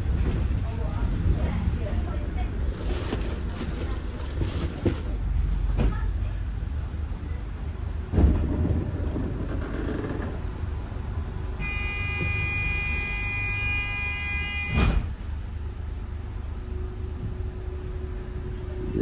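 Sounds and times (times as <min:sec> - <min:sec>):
bus engine rumble: 0:00.0 - 0:19.0.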